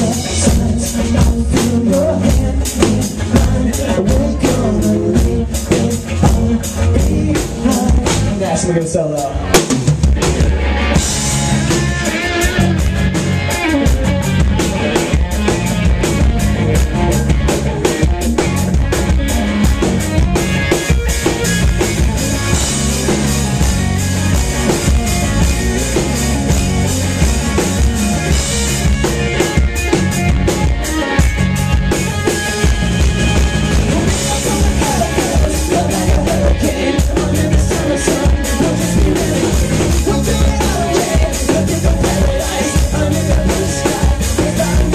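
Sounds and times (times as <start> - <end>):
drum kit driving beat: 0.0 - 44.9
live pop-rock band playing: 0.0 - 44.9.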